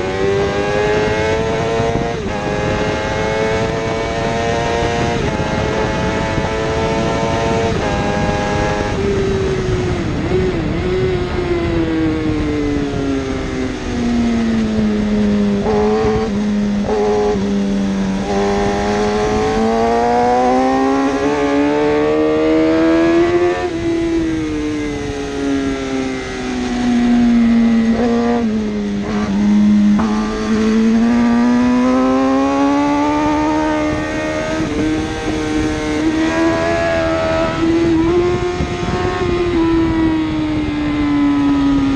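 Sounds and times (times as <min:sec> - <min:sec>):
other motorbike engines: 0:00.0 - 0:41.9
superbike racing engine: 0:00.0 - 0:41.9.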